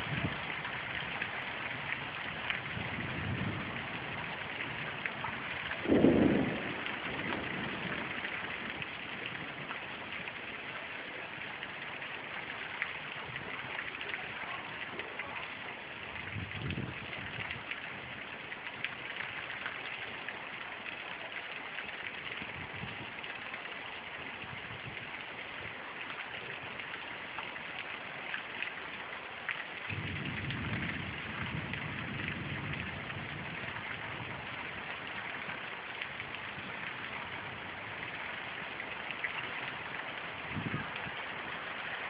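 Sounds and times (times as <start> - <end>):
heavy rain falling: 0.0 - 42.0
raindrops ticking on surfaces: 0.0 - 42.0.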